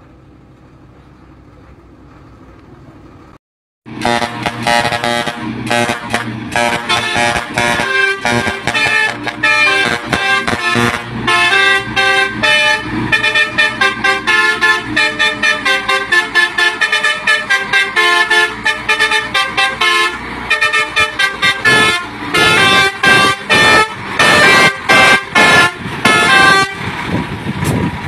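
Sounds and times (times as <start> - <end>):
truck air horn tooting a tune: 3.9 - 26.9.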